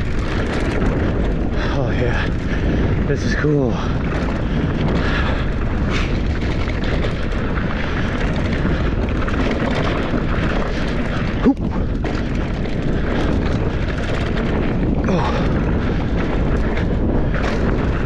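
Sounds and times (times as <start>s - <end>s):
bike tyres on dirt trail: 0.0s - 18.0s
wind buffeting microphone: 0.0s - 18.0s.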